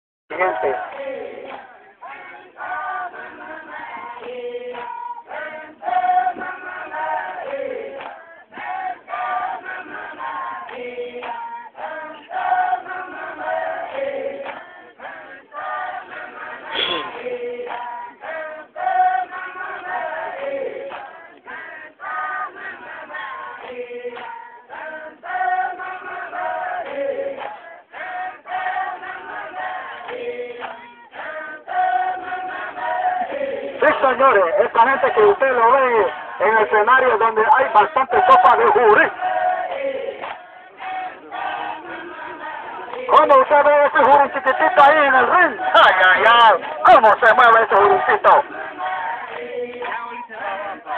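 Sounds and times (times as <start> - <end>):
group singing a chant: 0.3 - 50.9.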